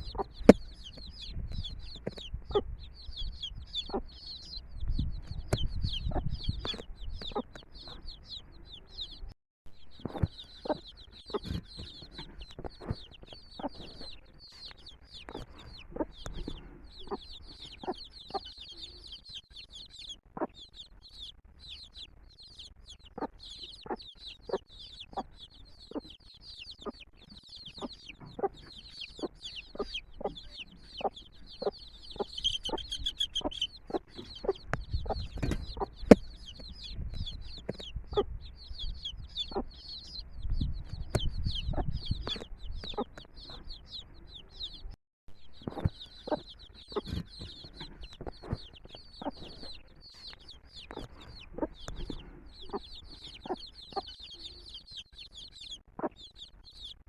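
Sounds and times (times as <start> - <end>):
hen clucking: 0.0 - 9.3, 9.9 - 57.0
chicks peeping: 0.0 - 57.0.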